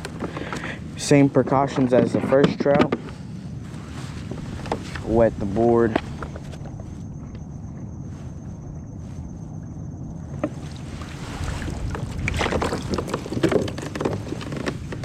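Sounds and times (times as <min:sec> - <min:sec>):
water splashing and sloshing: 0:00.0 - 0:15.0
wind rumble on microphone: 0:00.0 - 0:15.0.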